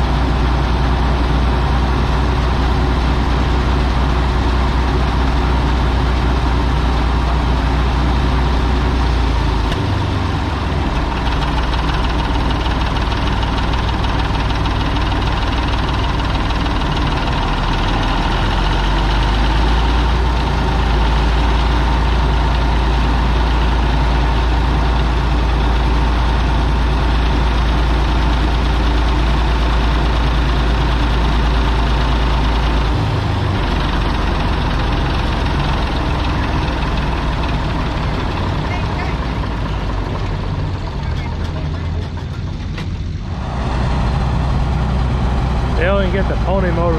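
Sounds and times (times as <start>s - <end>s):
engine idling: 0.0s - 46.9s.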